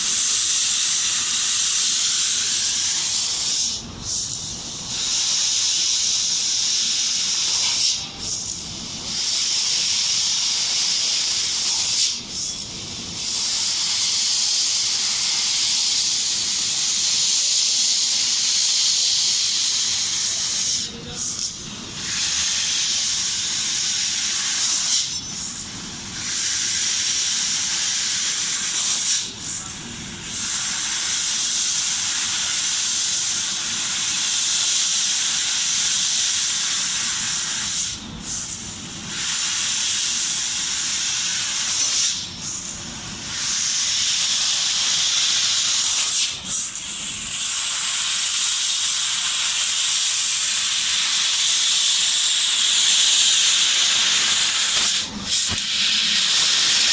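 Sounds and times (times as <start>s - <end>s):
laser cutter gas jet hissing: 0.0s - 56.9s.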